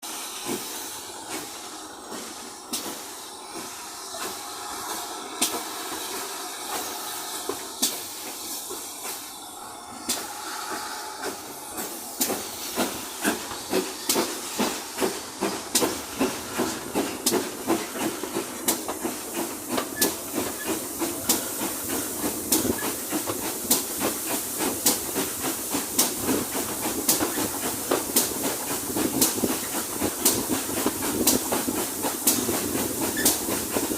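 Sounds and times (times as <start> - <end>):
steam locomotive hissing steam: 0.0 - 33.9.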